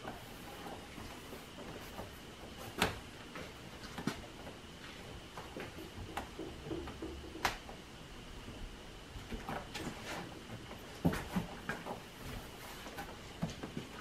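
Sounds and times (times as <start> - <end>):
faint steady high hum: 0.0 - 14.0.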